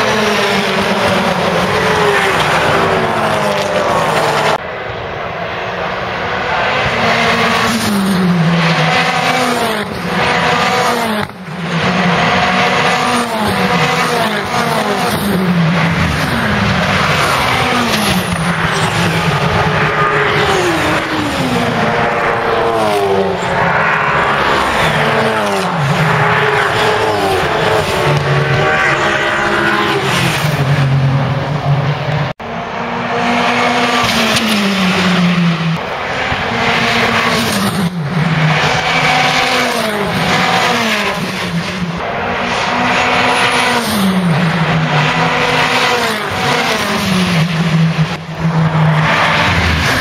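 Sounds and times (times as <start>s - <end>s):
race car engines passing: 0.0s - 50.0s.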